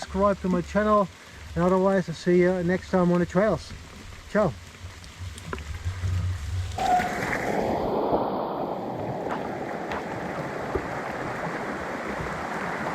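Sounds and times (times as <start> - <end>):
running water rushing: 0.0 - 12.9.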